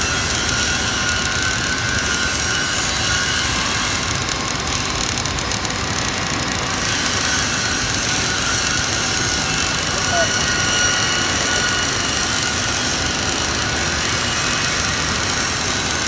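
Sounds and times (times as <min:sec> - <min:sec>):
welding arc crackling and hissing: 0:00.0 - 0:16.0.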